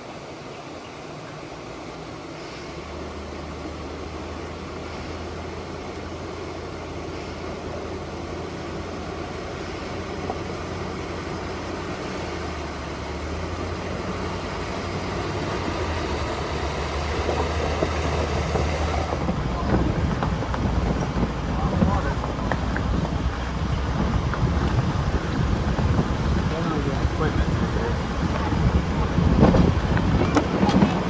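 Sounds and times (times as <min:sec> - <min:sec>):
rough driving noise: 0:01.4 - 0:31.0
vehicle engine running at low revs: 0:01.4 - 0:31.0.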